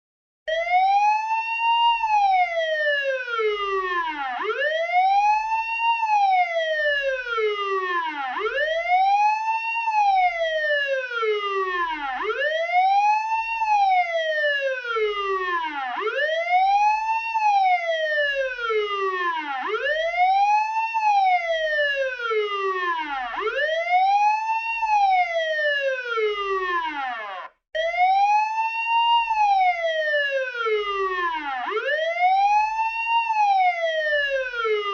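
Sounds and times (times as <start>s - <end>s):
police siren wailing: 0.5s - 34.9s.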